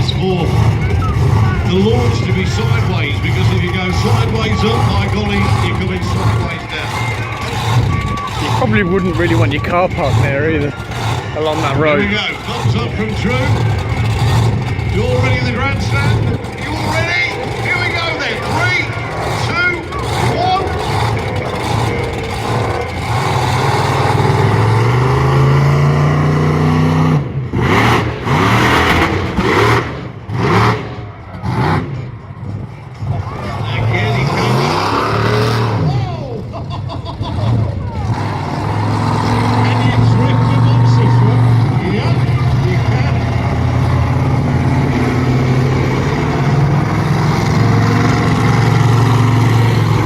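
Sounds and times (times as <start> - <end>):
monster truck engine revving: 0.0 - 50.0.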